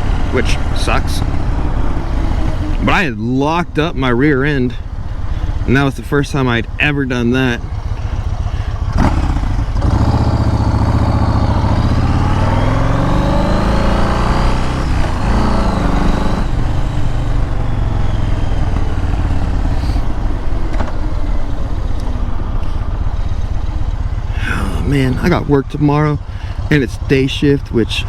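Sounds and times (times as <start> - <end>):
motorcycle engine revving: 0.0 - 28.0
rushing wind: 0.0 - 28.0.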